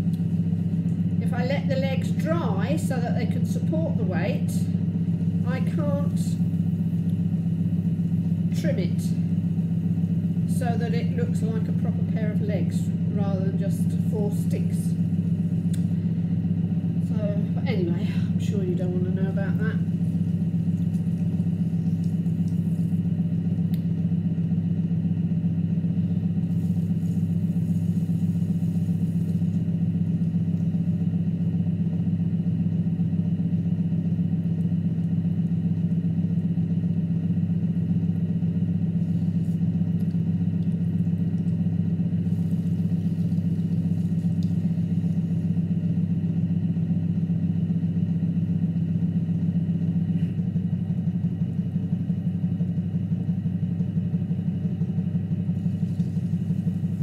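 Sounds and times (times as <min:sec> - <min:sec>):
potter's wheel motor humming: 0:00.0 - 0:57.0.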